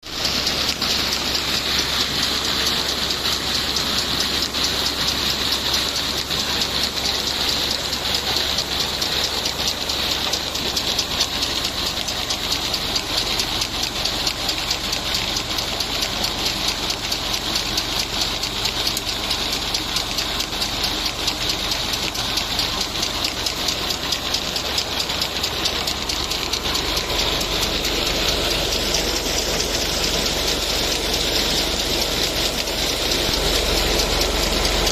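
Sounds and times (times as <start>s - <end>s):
tractor diesel engine running: 0.0s - 34.9s
steady rushing hiss: 0.1s - 34.9s.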